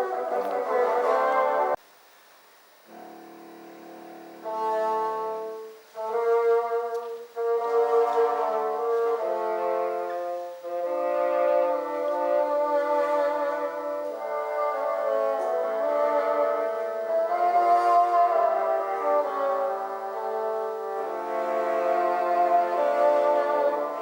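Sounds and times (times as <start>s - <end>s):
bassoon ensemble playing chords: 0.0s - 1.8s, 2.9s - 24.0s.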